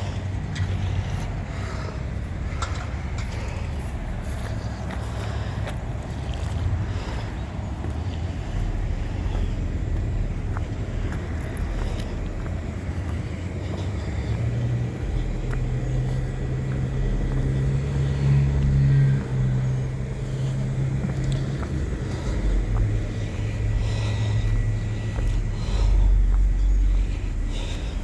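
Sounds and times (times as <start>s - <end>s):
car engine hum: 0.0s - 28.0s
road noise rumble: 0.0s - 28.0s.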